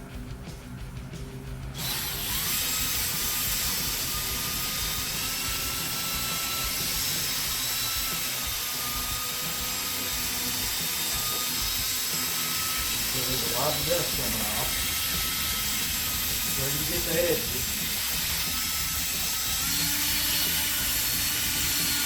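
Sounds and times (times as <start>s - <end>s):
cordless drill whining: 1.8s - 22.0s.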